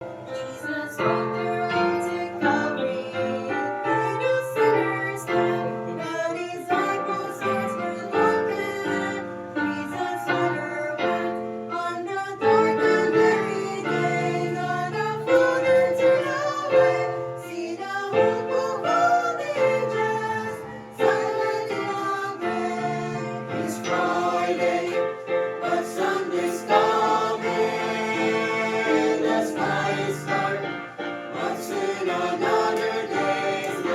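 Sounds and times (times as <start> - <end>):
instrumental accompaniment: 0.0 - 33.9
group of voices singing: 0.4 - 33.9.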